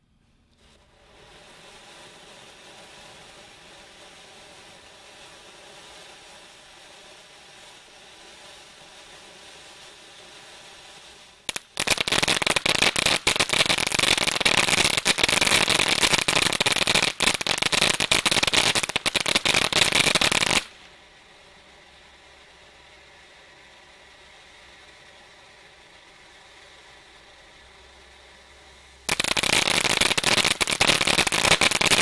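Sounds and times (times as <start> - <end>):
firework fountain hissing: 0.2 - 32.0
loud dense firework crackling: 0.4 - 32.0.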